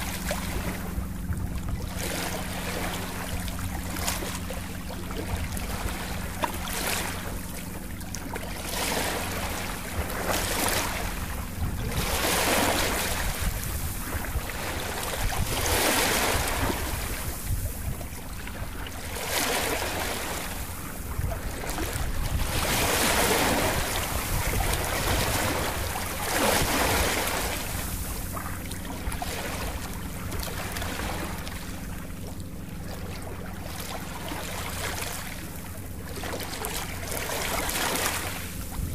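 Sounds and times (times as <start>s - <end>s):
steady low hum: 0.0s - 38.9s
waves washing in: 0.0s - 38.9s.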